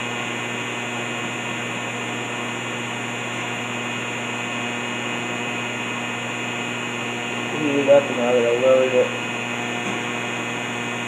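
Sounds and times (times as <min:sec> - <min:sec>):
low electrical hum: 0:00.0 - 0:11.0
welding arc hissing: 0:00.0 - 0:11.0.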